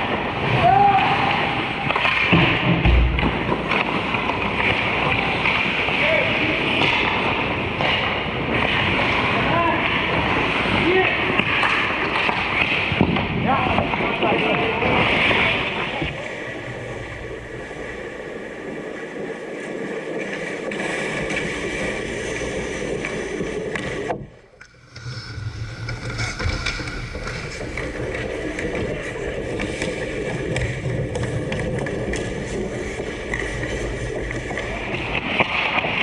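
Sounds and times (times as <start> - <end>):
skates scraping on ice: 0.0 - 36.0.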